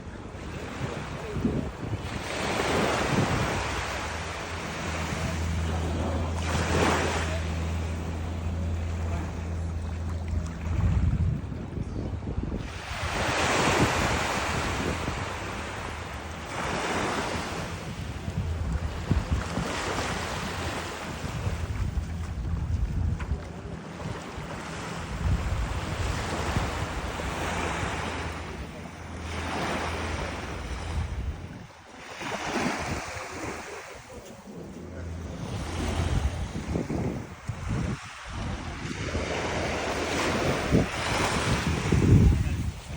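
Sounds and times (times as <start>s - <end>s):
sea waves rushing: 0.0s - 42.9s
wind buffeting microphone: 0.0s - 42.9s.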